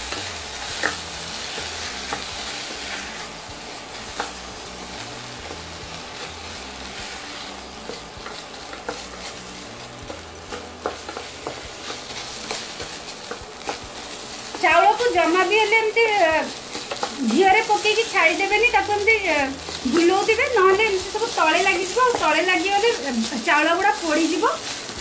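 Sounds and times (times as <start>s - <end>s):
rice sizzling in a pot: 0.0s - 25.0s.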